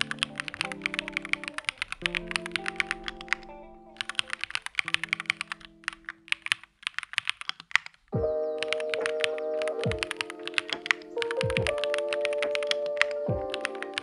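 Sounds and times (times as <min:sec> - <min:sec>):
background music: 0:00.0 - 0:06.4, 0:08.2 - 0:14.0
mechanical keyboard typing: 0:00.0 - 0:14.0.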